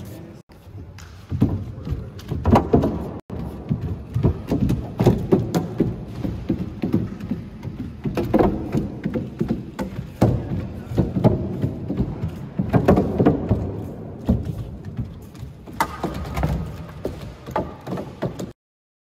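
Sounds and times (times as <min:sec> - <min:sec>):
robot feet knocking on wood: 0:01.3 - 0:18.6.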